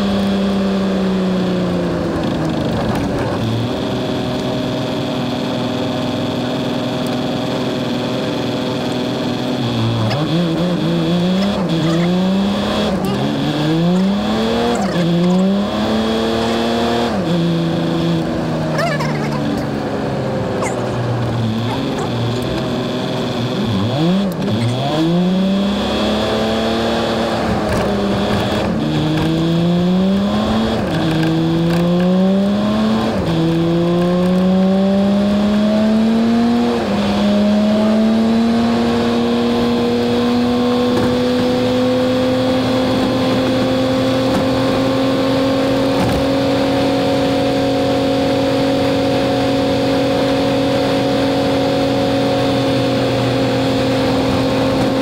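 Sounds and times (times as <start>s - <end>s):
diesel truck engine shifting gears: 0.0s - 55.0s.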